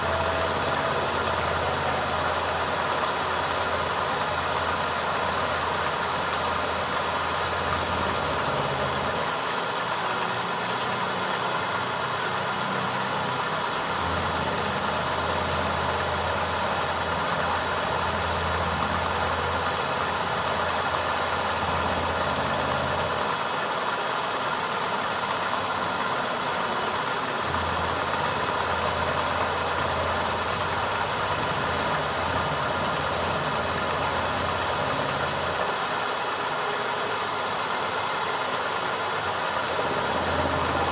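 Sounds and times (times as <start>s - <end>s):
machine running steadily: 0.0s - 40.9s.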